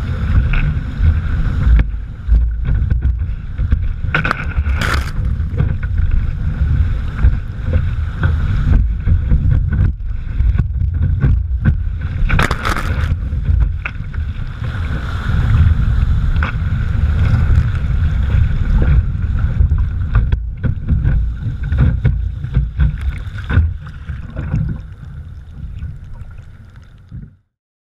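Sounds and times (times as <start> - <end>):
water rushing and splashing: 0.0 - 27.2
wind buffeting microphone: 0.0 - 27.2.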